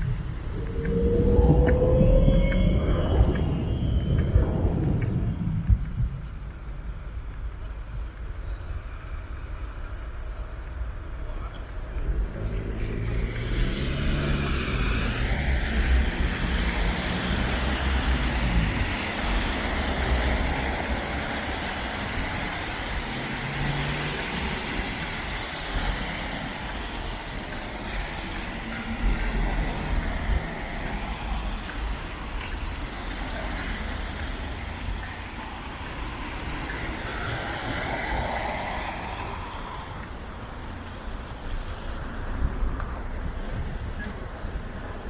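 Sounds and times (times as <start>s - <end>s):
low engine drone: 0.0s - 9.0s, 11.2s - 41.0s
heavy vehicles rumbling: 0.0s - 45.0s.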